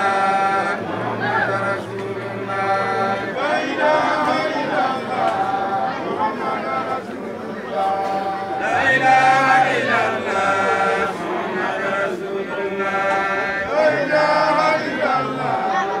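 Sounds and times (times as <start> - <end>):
group of voices chanting: 0.0 - 16.0.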